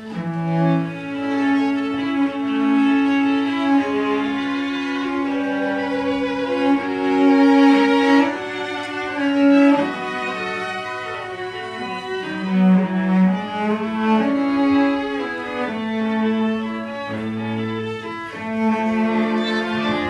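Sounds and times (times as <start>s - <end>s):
string trio playing: 0.0s - 20.0s.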